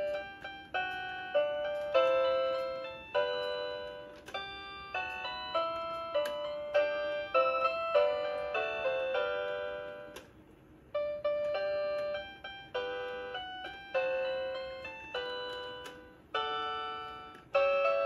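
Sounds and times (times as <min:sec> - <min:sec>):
tinny electronic toy melody: 0:00.0 - 0:18.0.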